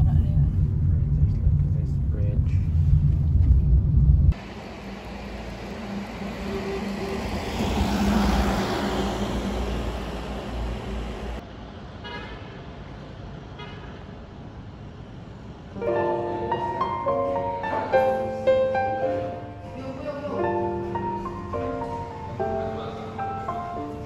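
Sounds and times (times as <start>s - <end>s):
traffic passing: 0.0s - 24.0s.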